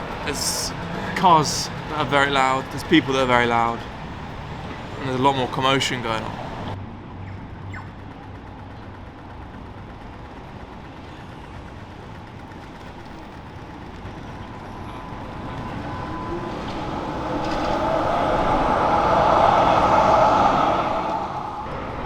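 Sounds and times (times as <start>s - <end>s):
vehicle approaching: 0.0s - 8.4s, 12.2s - 22.0s
city street traffic: 0.0s - 22.0s.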